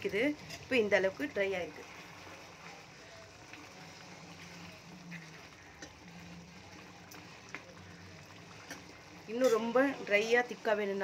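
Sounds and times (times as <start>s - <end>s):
gravy bubbling in a pan: 0.0s - 11.0s.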